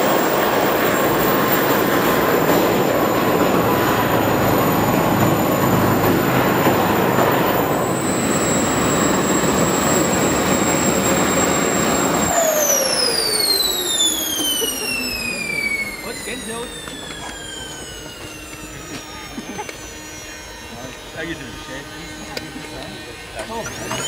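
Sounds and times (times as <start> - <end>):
jet turbines rushing and whining: 0.0 - 24.0.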